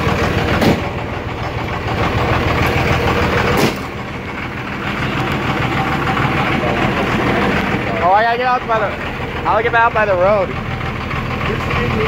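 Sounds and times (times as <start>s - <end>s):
diesel engine idling clatter: 0.0s - 12.0s.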